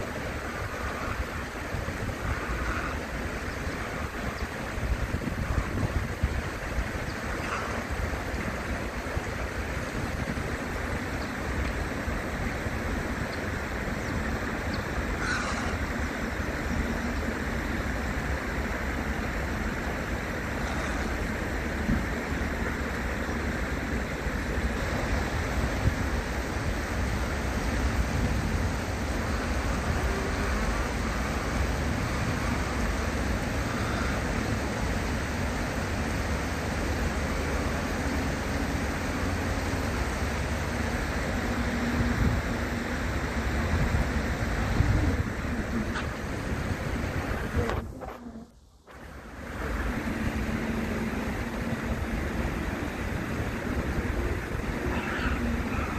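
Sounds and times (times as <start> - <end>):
shallow stream flowing: 0.0 - 55.9.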